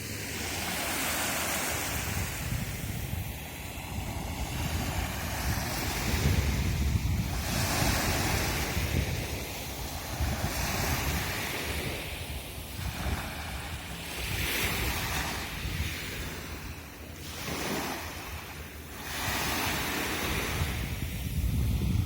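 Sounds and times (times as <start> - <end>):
sea waves washing onto beach: 0.0 - 22.0
wind buffeting microphone: 1.5 - 22.0.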